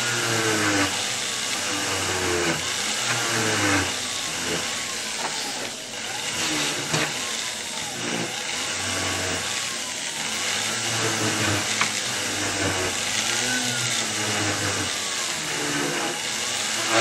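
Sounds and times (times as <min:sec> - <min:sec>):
pendant drill motor whine: 0:00.0 - 0:17.0.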